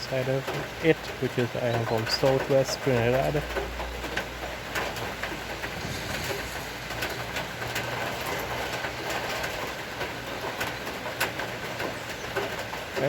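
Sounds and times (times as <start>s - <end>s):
heavy rain hiss: 0.0s - 13.0s
water drips ticking: 0.0s - 13.0s.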